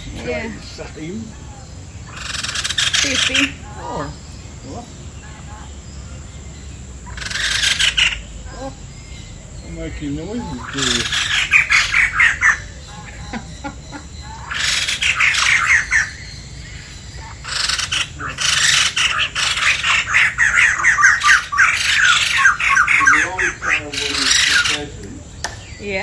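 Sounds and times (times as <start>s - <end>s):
birds squawking harshly: 0.0s - 26.0s.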